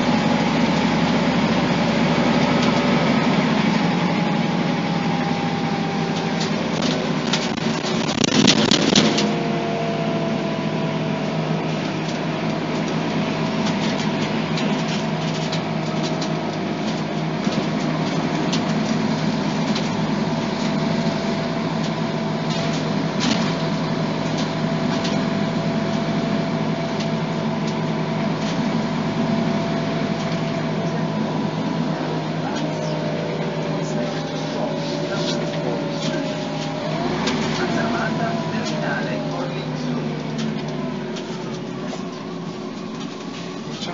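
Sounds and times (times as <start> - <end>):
bus body rattles and clicks: 0.0 - 43.9
bus diesel engine running: 0.0 - 43.9.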